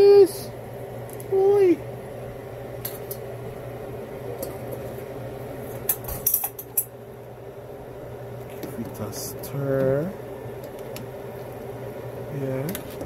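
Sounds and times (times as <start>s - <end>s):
steady hum: 0.0s - 13.0s
pot bubbling: 1.9s - 13.0s.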